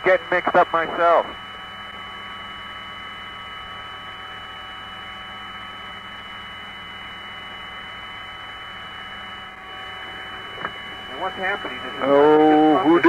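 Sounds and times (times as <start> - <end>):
steady hiss and hum: 0.0 - 13.0.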